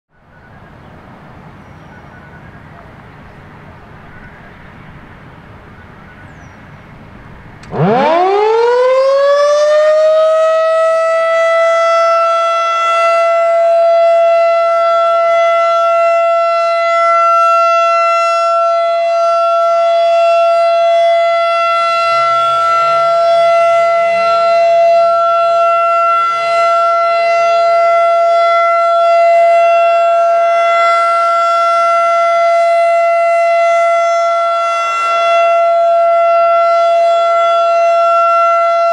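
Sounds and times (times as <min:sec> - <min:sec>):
outdoor warning siren steady tone: 0:07.6 - 0:38.9.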